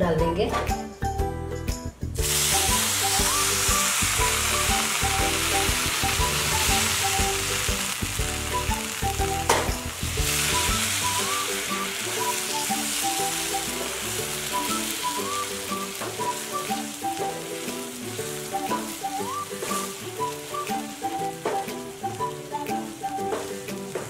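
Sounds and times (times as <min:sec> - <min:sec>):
background music: 0:00.0 - 0:24.0
milk sizzling in a hot pan: 0:02.2 - 0:23.9.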